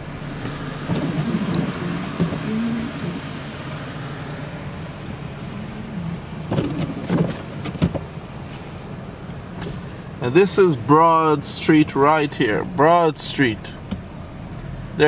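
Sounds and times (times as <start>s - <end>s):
car engine hum: 0.0s - 15.0s
road and wind noise: 0.0s - 15.0s.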